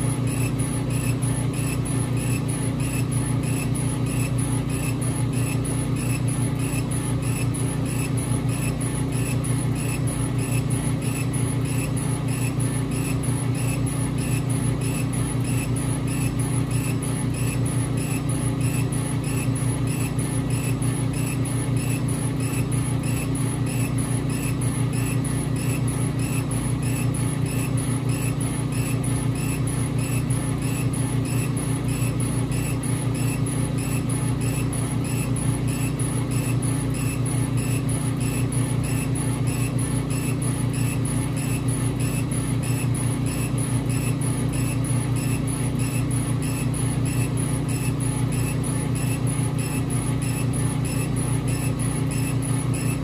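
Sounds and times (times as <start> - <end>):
machine low hum: 0.0 - 53.0.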